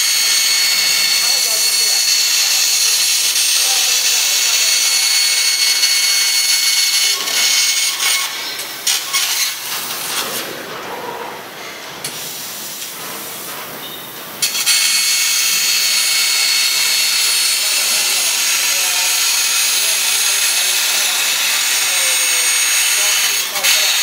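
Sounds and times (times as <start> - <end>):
laser cutter hissing: 0.0 - 10.4, 14.1 - 24.0.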